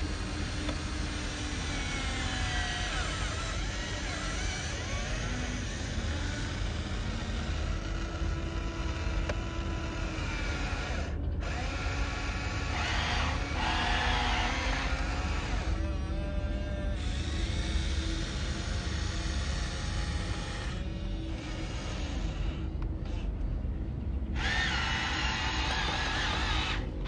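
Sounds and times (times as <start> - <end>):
small electric motors whirring: 0.0 - 27.0.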